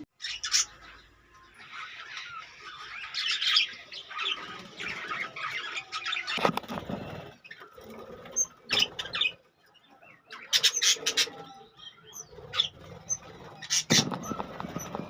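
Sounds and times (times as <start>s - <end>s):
budgerigars chirping: 0.2s - 15.0s.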